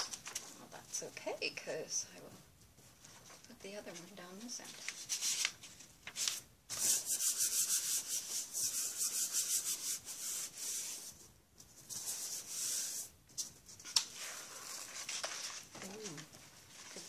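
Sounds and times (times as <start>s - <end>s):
hands rubbing paper: 2.6s - 17.0s.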